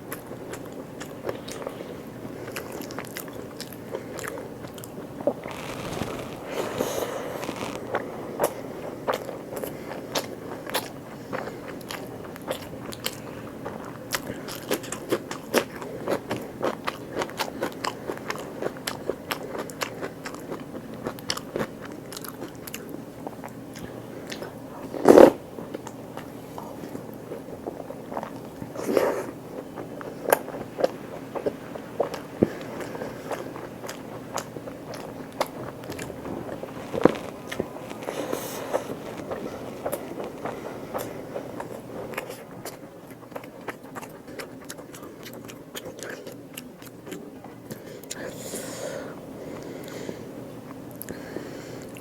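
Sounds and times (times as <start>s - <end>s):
chewing crunchy food: 0.0s - 48.6s, 49.4s - 52.0s.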